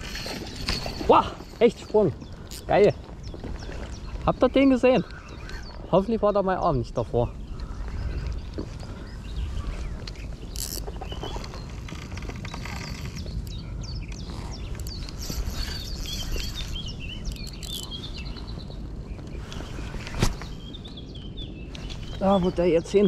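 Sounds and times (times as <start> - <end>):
songbirds chirping: 0.0 - 23.0
wind rumble on microphone: 0.0 - 23.0.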